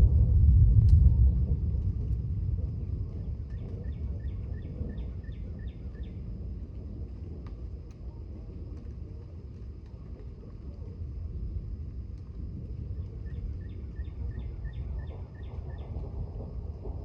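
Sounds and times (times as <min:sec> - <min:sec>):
distant thunder rumble: 0:00.0 - 0:17.0.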